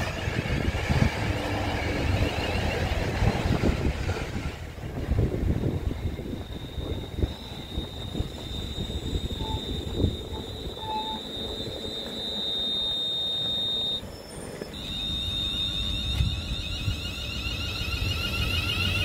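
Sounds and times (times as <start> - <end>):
train electronic whine: 0.0 - 19.0
wheels rumbling: 0.0 - 19.0.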